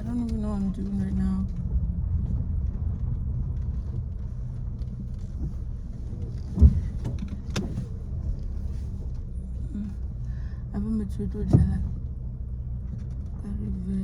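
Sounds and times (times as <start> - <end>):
car cabin low rumble: 0.0 - 14.0.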